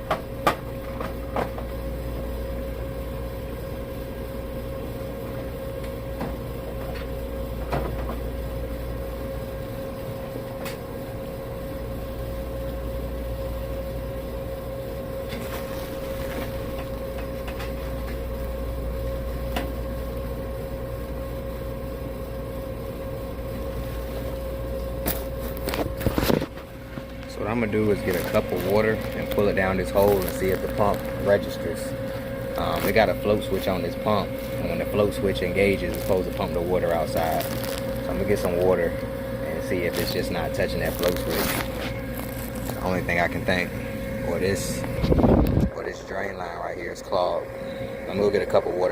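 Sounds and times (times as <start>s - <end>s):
machine hum with whine: 0.0s - 48.9s.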